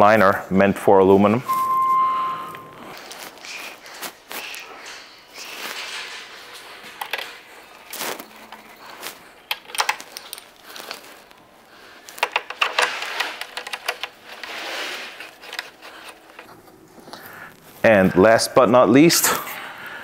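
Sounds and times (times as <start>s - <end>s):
rustling and scraping: 1.4s - 18.4s.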